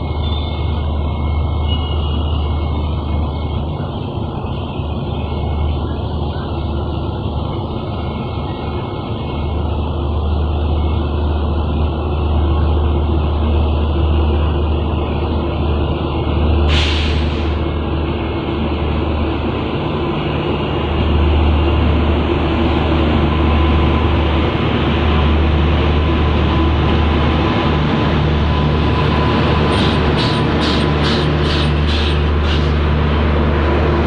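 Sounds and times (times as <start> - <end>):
electric train rumble and hum: 0.0 - 34.0.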